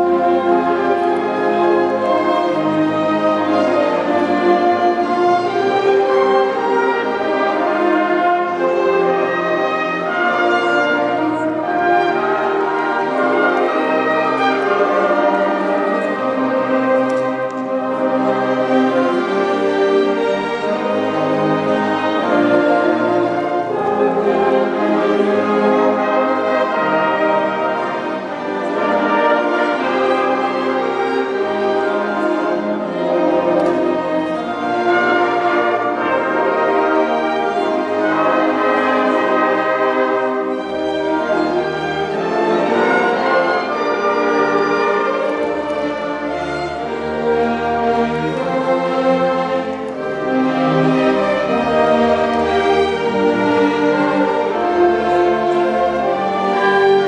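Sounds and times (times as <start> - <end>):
brass holding sustained chords: 0.0 - 57.0.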